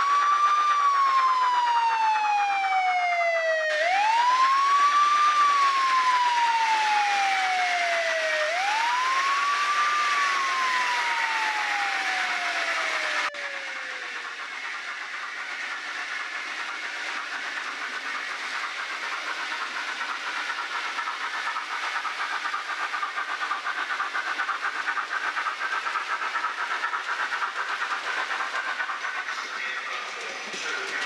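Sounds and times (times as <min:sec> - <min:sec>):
model train whirring and clicking: 0:00.0 - 0:31.0.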